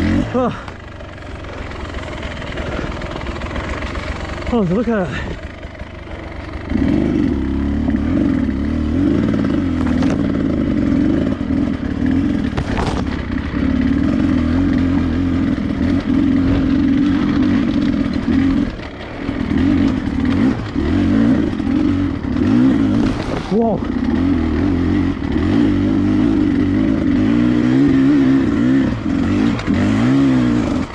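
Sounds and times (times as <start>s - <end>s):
dirt bike engine running: 0.0s - 30.9s.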